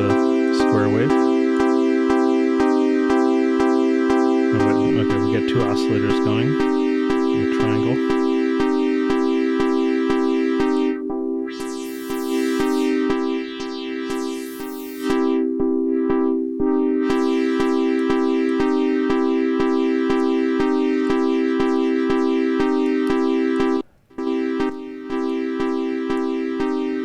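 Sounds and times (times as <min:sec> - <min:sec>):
steady ticking: 0:00.0 - 0:15.3, 0:16.1 - 0:27.0
synthesizer playing sustained chords: 0:00.0 - 0:27.0.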